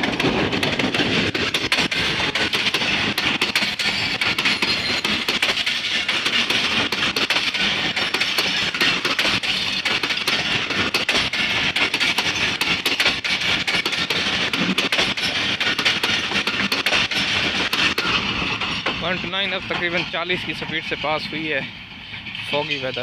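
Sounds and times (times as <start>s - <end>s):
train wheels rushing on rails: 0.0s - 23.0s
wheel clicks and clatter: 0.0s - 23.0s.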